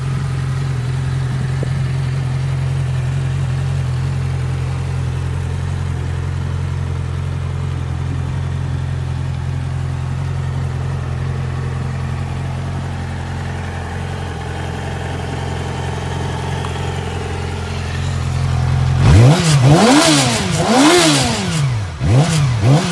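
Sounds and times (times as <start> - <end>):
motorcycle engine idling and revving: 0.0 - 22.9.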